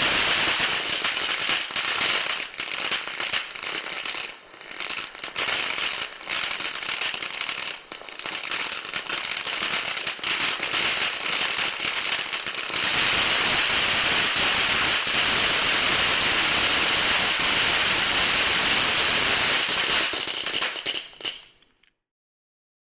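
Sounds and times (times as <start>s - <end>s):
firework fountain crackling: 0.0s - 21.9s.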